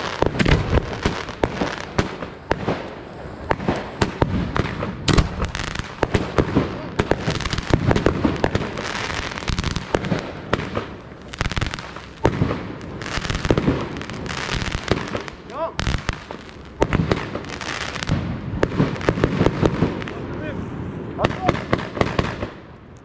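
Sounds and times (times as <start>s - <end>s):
fireworks bursts and bangs: 0.0s - 22.8s
fireworks crackling: 0.0s - 23.0s.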